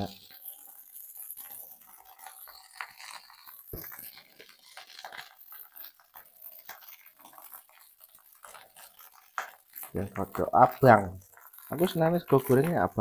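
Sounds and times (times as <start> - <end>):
rice sizzling in a wok: 0.0 - 13.0.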